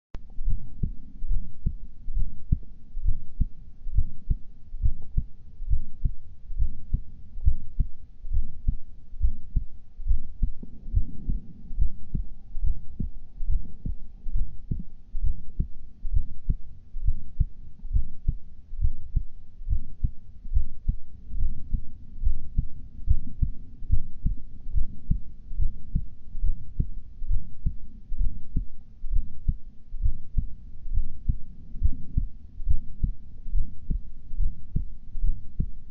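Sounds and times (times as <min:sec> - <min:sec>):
heart beating: 0:00.2 - 0:35.9.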